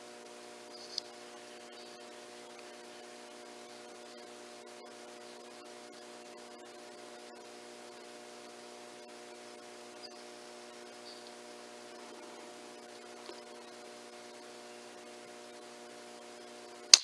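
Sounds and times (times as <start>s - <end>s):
constant hiss: 0.0s - 17.0s
electrical hum: 0.0s - 17.0s.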